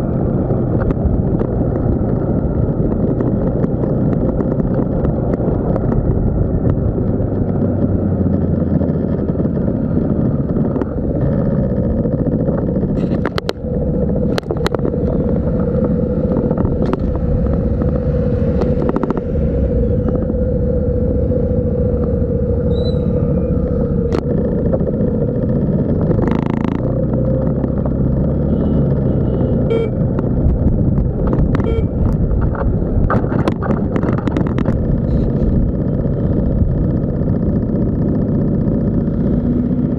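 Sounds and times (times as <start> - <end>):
motorbike engine running: 0.0 - 39.9
road noise: 0.0 - 39.9.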